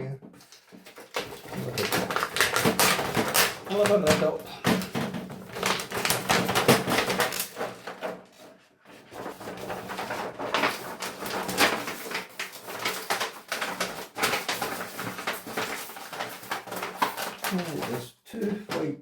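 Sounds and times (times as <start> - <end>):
plastic pieces clicking and clattering: 0.4 - 8.5, 9.2 - 18.0.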